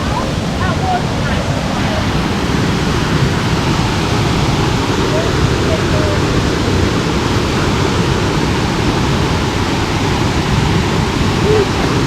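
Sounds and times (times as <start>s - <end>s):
fast-flowing river water: 0.0s - 12.0s.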